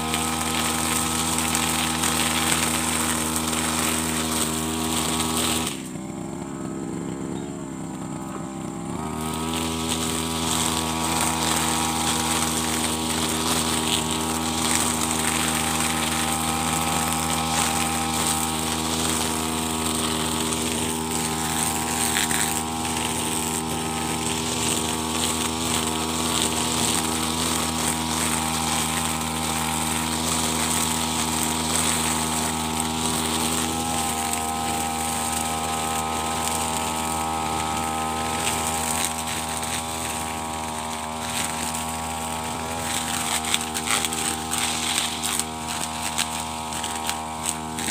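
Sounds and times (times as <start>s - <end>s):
brush cutter cutting grass: 0.0s - 47.9s.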